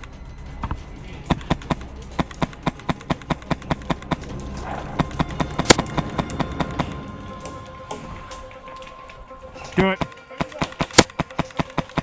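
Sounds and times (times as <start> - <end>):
running footsteps: 0.0 - 12.0
sharp crack: 0.0 - 12.0.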